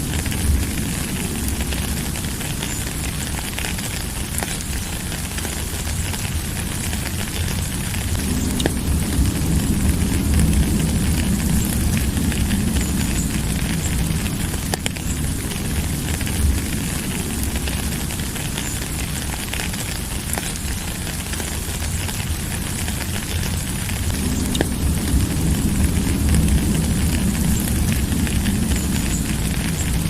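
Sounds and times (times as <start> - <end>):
deep rumble: 0.0 - 30.0
steady rain hiss: 0.0 - 30.0.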